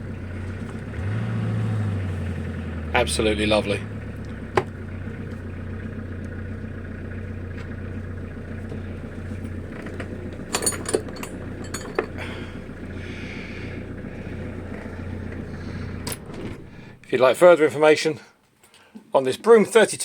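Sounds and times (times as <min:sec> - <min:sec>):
diesel engine idling: 0:00.0 - 0:17.6.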